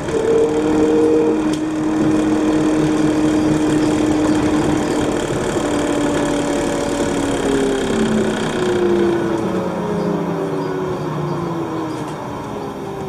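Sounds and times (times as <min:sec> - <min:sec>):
bus engine and road noise: 0:00.0 - 0:13.0
droning hum: 0:00.0 - 0:13.0.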